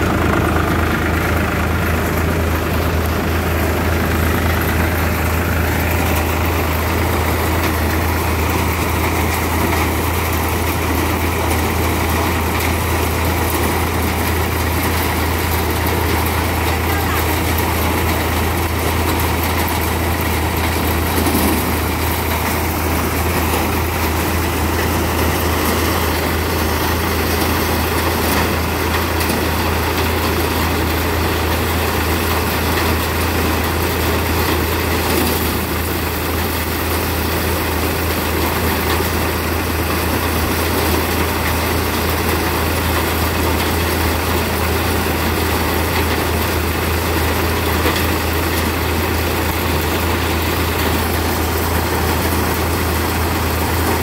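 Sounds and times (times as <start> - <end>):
threshing machine running: 0.0 - 54.0.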